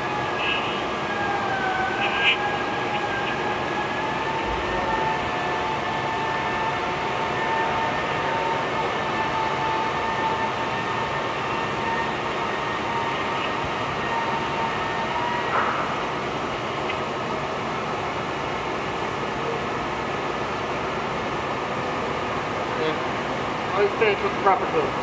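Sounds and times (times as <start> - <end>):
steady machine whine: 0.0 - 25.0.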